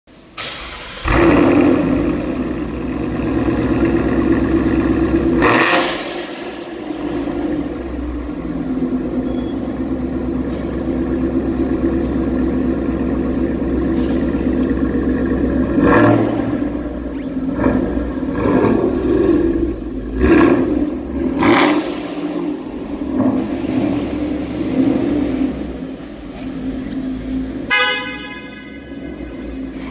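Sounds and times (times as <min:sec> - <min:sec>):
car engine idling: 0:00.1 - 0:29.9.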